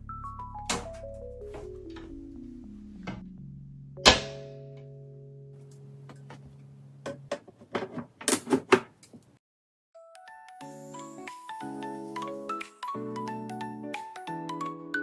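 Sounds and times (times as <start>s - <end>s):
background music: 0.0s - 7.0s, 10.0s - 15.0s.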